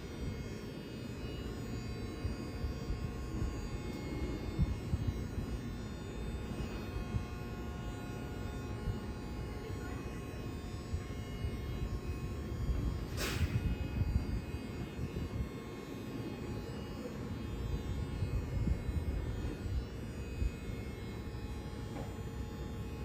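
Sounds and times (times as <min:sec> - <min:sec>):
electric train rumbling: 0:00.0 - 0:23.0
faint electrical hum: 0:00.0 - 0:23.0.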